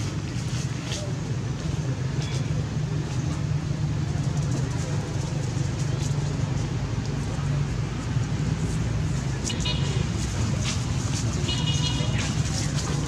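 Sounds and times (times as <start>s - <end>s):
low rumble and hiss: 0.0s - 13.0s.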